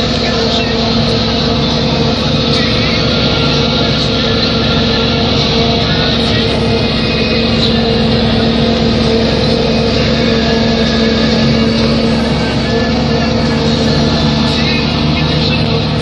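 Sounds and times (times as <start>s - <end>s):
forage harvester droning: 0.0s - 16.0s.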